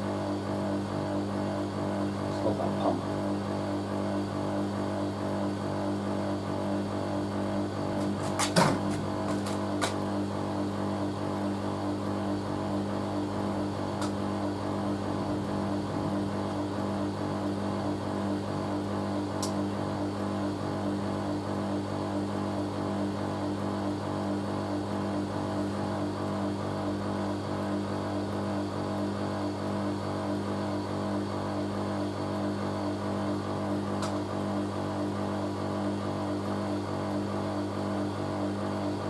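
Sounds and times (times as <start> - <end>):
washing machine spinning: 0.0 - 39.0.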